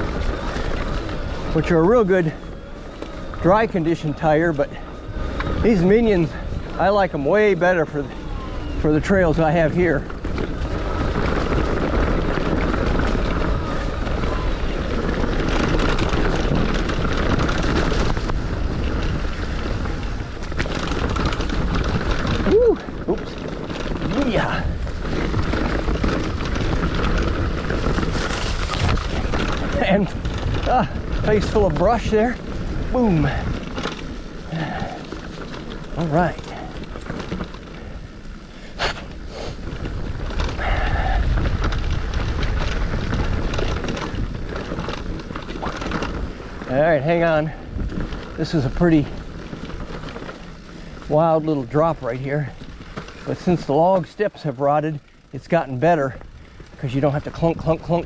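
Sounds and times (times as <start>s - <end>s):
wind on microphone: 0.0s - 51.1s
bike tyres rumbling on dirt: 0.0s - 58.0s
ticks and rattles of leaves and bike: 0.0s - 58.0s.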